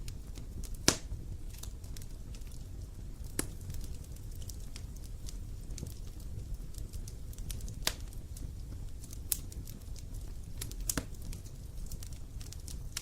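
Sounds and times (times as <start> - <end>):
campfire crackling and popping: 0.0 - 13.0
low rumble of burning fire: 0.0 - 13.0.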